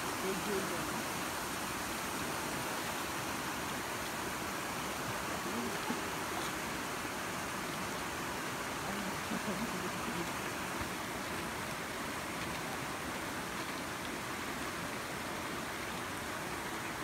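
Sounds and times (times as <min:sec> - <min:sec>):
rushing falling water: 0:00.0 - 0:17.0.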